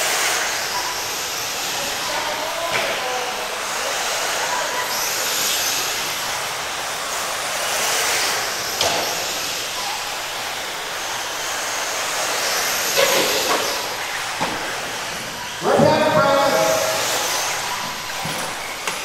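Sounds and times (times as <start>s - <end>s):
rc car motors and tyres hissing: 0.0s - 19.0s.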